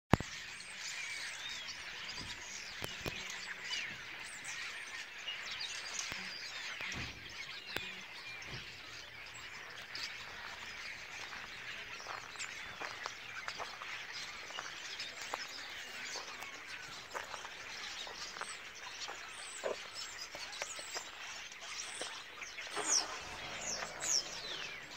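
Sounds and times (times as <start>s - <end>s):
small birds chirping: 0.1s - 24.9s.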